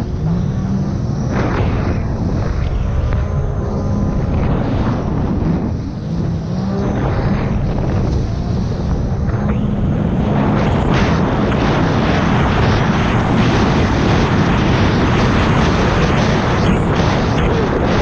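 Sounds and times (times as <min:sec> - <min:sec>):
water and wind rush: 0:00.0 - 0:18.0
watercraft engine running hard: 0:00.0 - 0:18.0.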